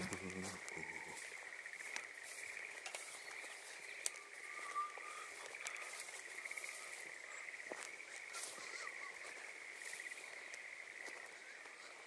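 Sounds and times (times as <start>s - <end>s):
footfalls on dirt path: 0.0s - 11.8s
high trilling frogs or insects: 0.0s - 12.0s.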